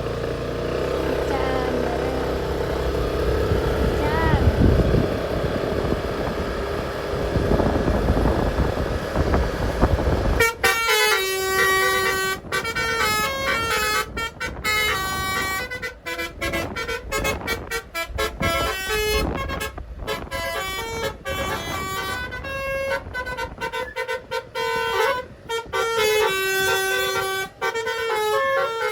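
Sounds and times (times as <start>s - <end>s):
loud noisy rumble: 0.0s - 28.9s
musical bus horn tune: 0.0s - 28.9s.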